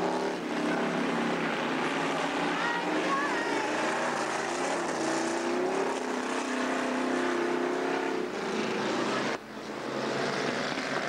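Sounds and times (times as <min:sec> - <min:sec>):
race car engine droning: 0:00.0 - 0:11.0.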